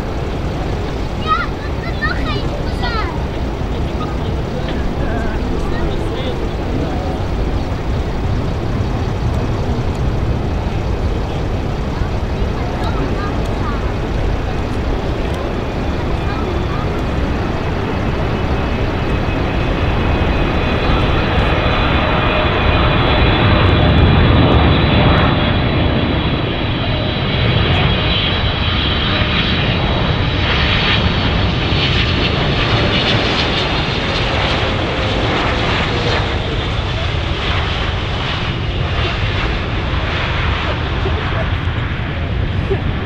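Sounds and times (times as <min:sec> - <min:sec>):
jet airliner flying past: 0:00.0 - 0:43.0.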